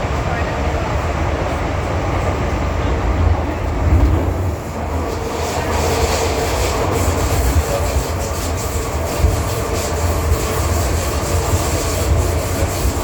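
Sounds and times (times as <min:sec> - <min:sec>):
metro train wheels rumbling on rail: 0:00.0 - 0:13.0.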